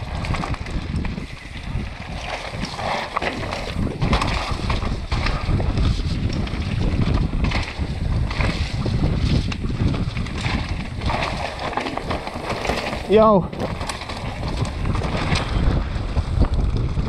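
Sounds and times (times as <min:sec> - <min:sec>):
tyre rumble over dirt: 0:00.0 - 0:17.0
wind buffeting microphone: 0:00.0 - 0:17.0
bike clicks and knocks: 0:00.1 - 0:17.0.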